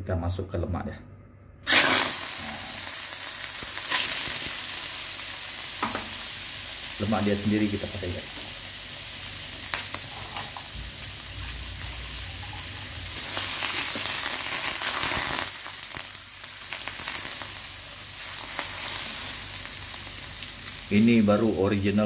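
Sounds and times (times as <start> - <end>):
fat sizzling in a wok: 1.6 - 22.0.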